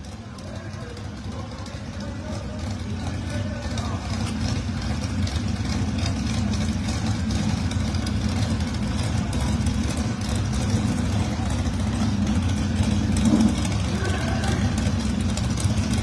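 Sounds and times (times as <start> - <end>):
race car engines idling: 0.0 - 16.0.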